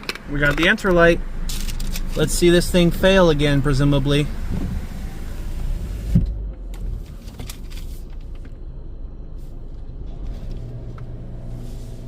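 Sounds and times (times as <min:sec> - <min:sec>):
car engine rumble: 0:00.0 - 0:12.0
steady low hum: 0:00.0 - 0:12.0.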